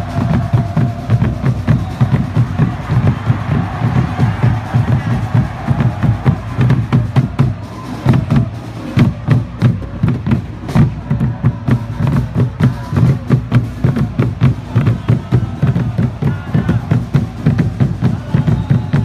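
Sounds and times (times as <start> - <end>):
music with heavy drum beat: 0.0 - 19.0.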